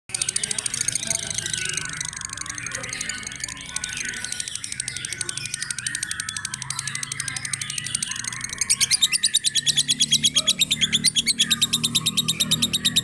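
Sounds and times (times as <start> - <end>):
lovebird rapid chattering song: 0.1 - 13.0.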